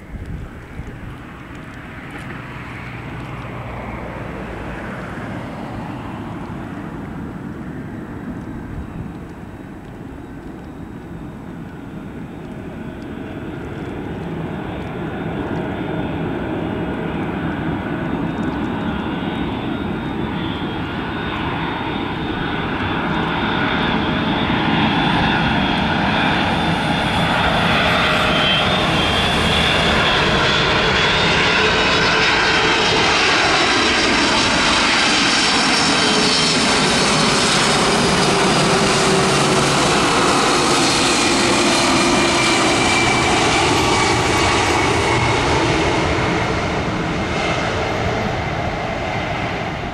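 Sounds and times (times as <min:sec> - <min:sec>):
jet engine whine sliding down: 0:00.0 - 0:49.9
jet engines rumbling overhead: 0:00.0 - 0:49.9.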